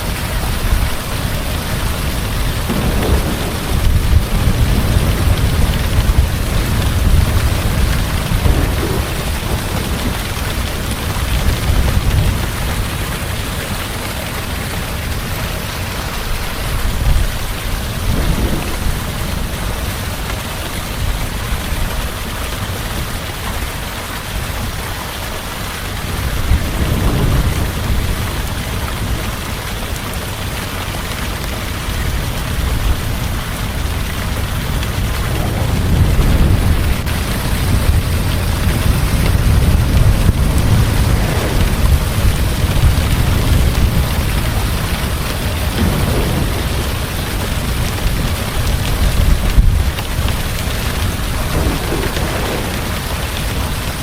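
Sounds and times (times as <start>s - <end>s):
heavy rain: 0.0s - 54.0s
low thunder rumbling: 0.1s - 54.0s.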